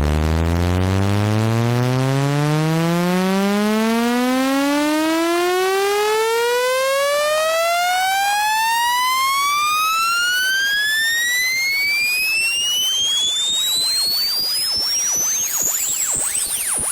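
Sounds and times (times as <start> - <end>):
electronic tone sweeping upward: 0.0 - 16.9.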